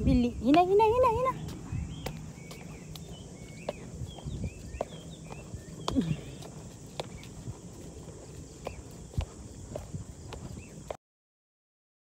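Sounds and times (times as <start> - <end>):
birds chirping: 0.0 - 11.0
footsteps on stone path: 0.0 - 11.0.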